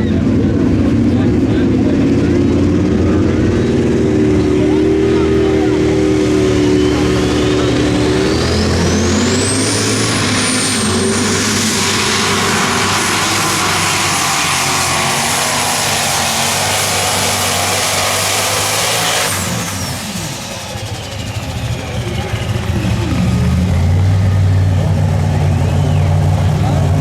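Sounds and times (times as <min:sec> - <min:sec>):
diesel engine at full throttle: 0:00.0 - 0:27.0
high turbo whine: 0:00.0 - 0:27.0.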